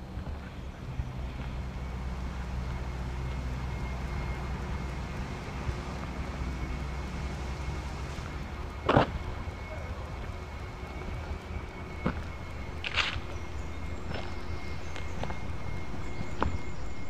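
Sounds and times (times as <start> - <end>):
distant road traffic rumble: 0.0 - 17.0
faint high steady tone: 0.6 - 17.0.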